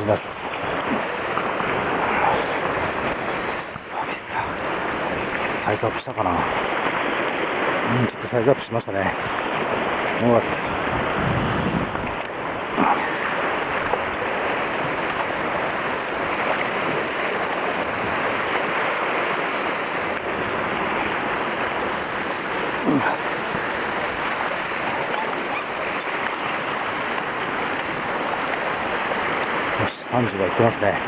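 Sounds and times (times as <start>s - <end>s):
surf washing against rocks: 0.0s - 31.0s
wind: 0.0s - 31.0s.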